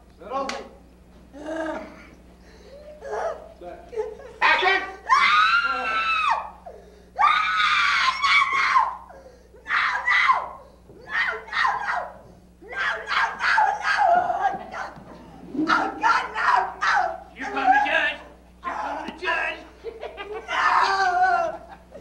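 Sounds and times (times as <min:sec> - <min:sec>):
person screaming: 0:02.7 - 0:19.6, 0:20.3 - 0:21.7.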